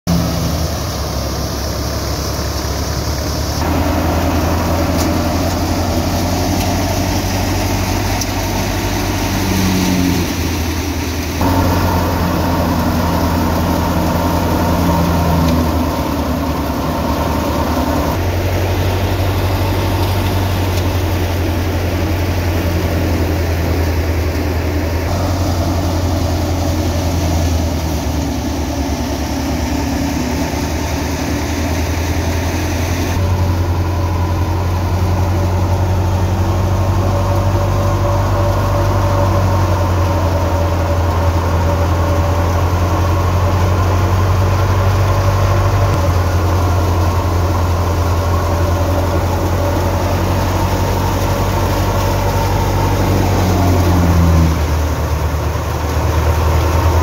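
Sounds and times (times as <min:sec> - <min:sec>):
tractor engine and thresher hum: 0:00.1 - 0:57.0.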